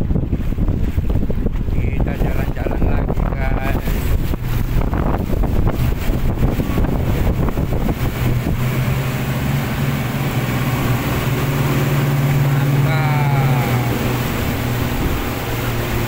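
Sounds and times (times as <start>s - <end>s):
outboard motors droning: 0.0s - 16.0s
water rushing in boat wake: 0.0s - 16.0s
wind: 0.0s - 16.0s.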